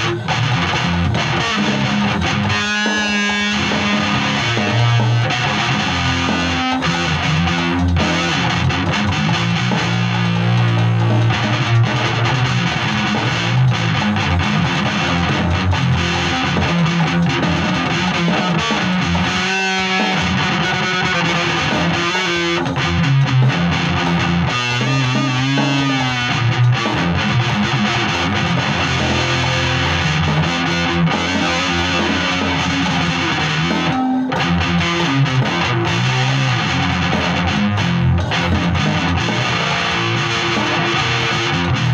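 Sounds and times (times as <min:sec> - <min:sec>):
distorted electric guitar riffs: 0:00.0 - 0:41.9.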